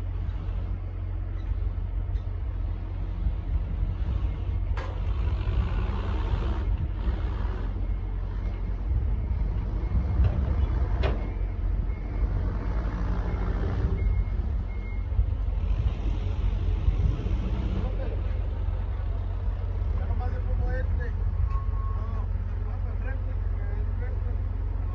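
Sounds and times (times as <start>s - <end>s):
truck engine idling: 0.0s - 24.9s.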